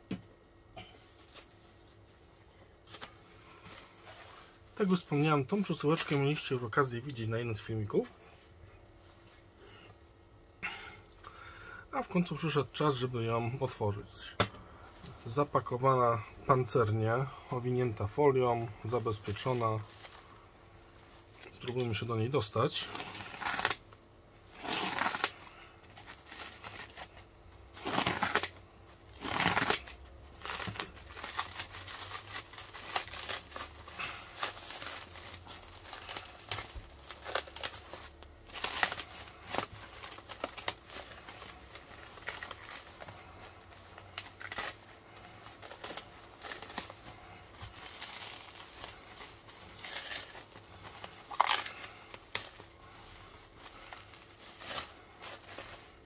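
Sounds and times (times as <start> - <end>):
plastic wrap crinkling and tearing: 2.8 - 8.1, 15.0 - 56.0.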